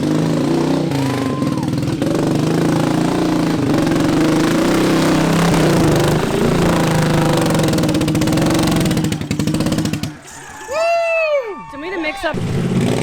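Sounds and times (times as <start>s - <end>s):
small engine running: 0.0s - 10.8s, 12.3s - 13.0s.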